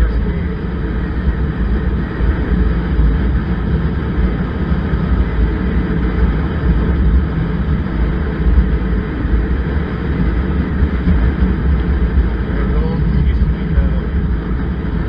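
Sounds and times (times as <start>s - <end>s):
motorcycle riding: 0.0s - 15.0s
wind buffeting microphone: 0.0s - 15.0s.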